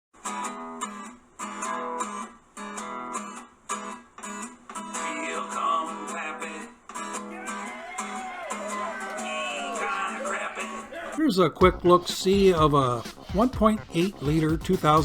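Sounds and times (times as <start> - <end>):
strummed guitar chords: 0.2 - 15.0.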